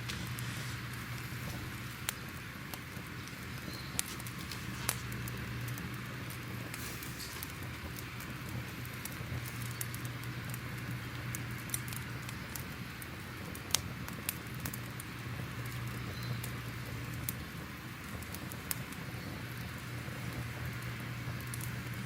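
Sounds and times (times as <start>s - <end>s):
fire crackling with pops: 0.0s - 22.0s
low steady hum: 0.0s - 22.0s
steady hiss: 0.0s - 22.0s.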